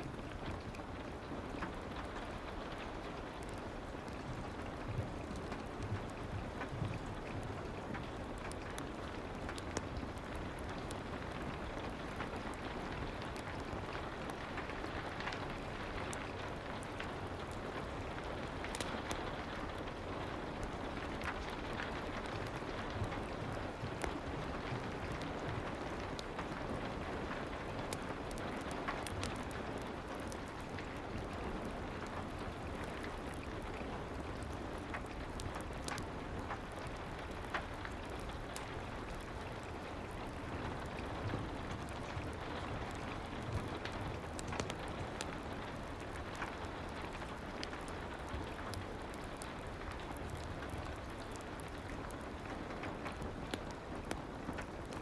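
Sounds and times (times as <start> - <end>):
steady soft rain: 0.0 - 55.0.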